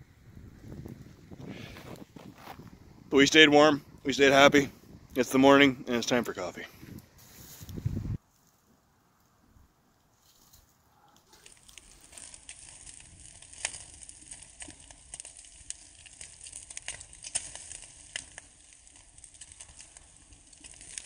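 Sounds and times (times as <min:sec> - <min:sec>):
campfire crackling and popping: 0:00.2 - 0:08.2, 0:09.2 - 0:21.0.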